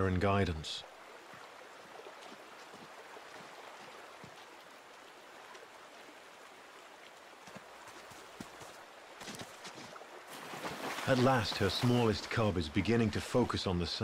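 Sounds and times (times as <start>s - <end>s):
shallow river rushing: 0.0s - 14.0s.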